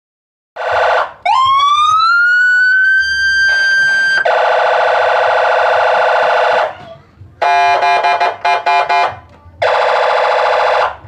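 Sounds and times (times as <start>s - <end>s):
electronic siren: 0.6s - 6.7s, 7.4s - 11.0s.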